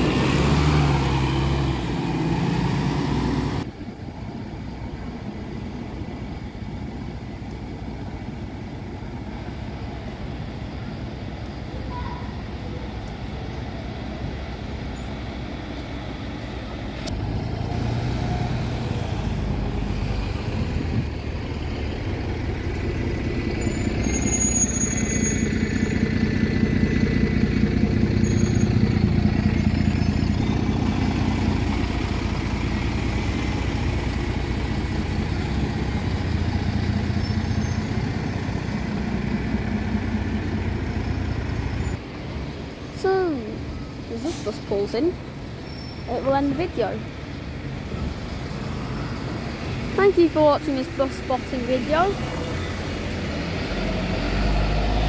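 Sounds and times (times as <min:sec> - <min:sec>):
bus engine passing: 0:00.0 - 0:55.0.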